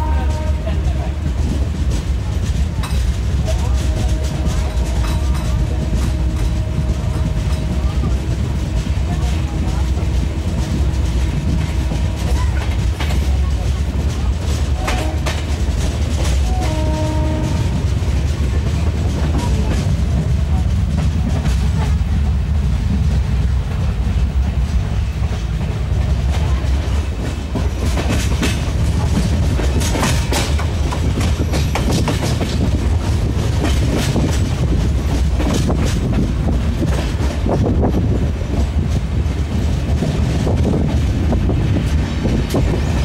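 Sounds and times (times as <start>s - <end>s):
low rumble of train wheels: 0.0s - 43.0s
wheels clacking over rail joints: 0.0s - 43.0s.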